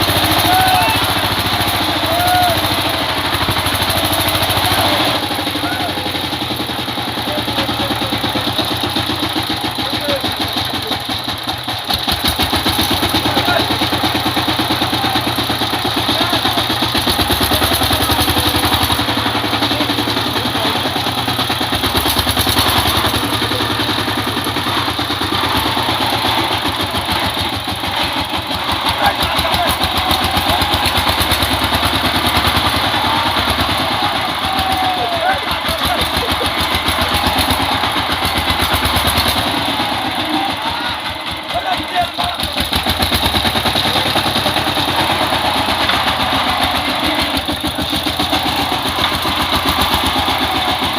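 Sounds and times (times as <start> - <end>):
power tiller engine running: 0.0 - 50.9.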